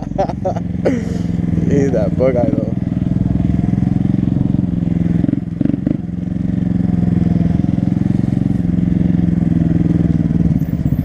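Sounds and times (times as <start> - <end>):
small motorcycle engine running: 0.4 - 11.0.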